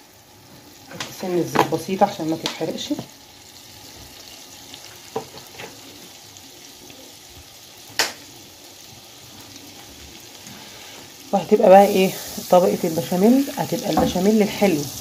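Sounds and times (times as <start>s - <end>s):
butter sizzling in frying pan: 0.0s - 15.0s.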